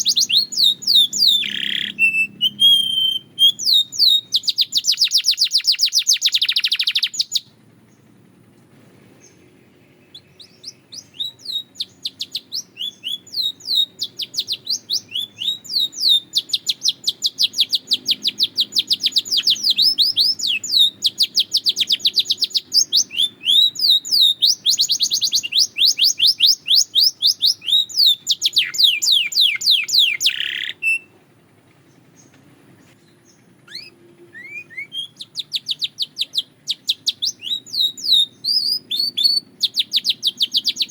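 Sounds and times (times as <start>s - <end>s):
canary singing trilled runs: 0.0s - 8.2s, 9.2s - 40.9s
faint low hum: 0.0s - 40.9s.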